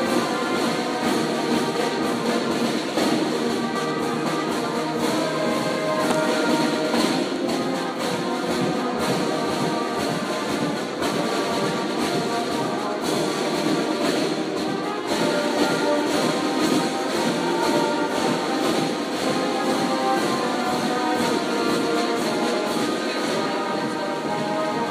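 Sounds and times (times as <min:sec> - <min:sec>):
marching band playing: 0:00.0 - 0:24.9.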